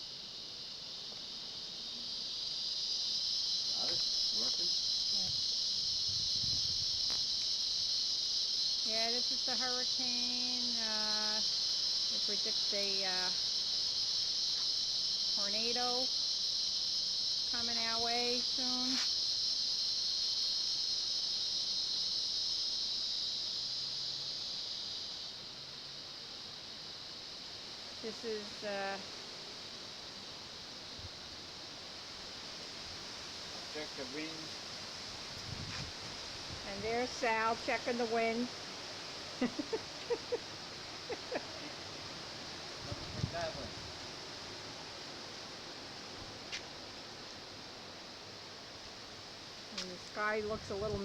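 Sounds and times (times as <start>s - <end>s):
crickets droning: 0.0s - 51.0s
insects trilling: 0.0s - 51.0s.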